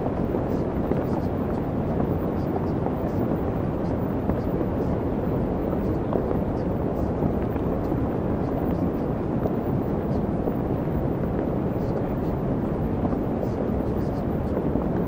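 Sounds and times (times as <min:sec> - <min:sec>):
steady low rushing noise: 0:00.0 - 0:15.0.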